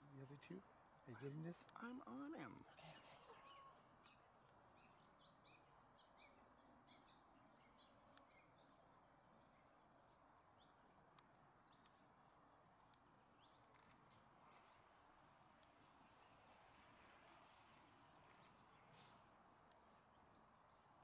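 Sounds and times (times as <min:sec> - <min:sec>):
faint bird chirps: 0:00.0 - 0:09.7, 0:12.8 - 0:21.0
low background hiss: 0:00.0 - 0:21.0.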